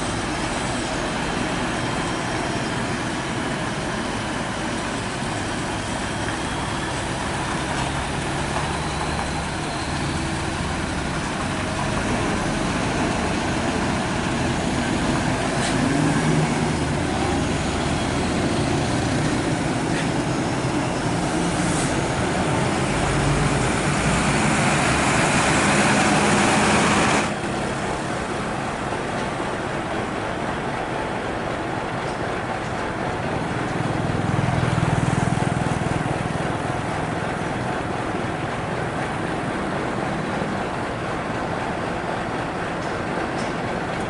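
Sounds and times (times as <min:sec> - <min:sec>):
truck diesel engine running: 0:00.0 - 0:44.0.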